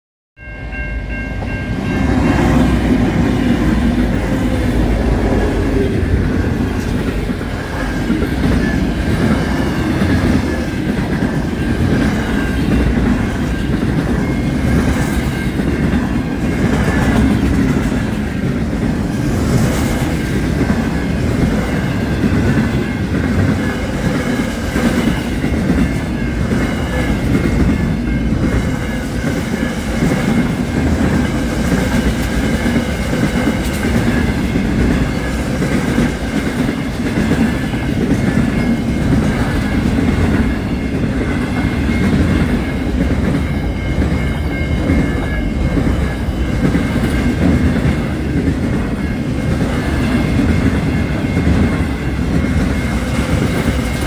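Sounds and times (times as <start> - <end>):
steady high tones: 0.4 - 54.0
train wheels rumbling on rails: 0.4 - 54.0.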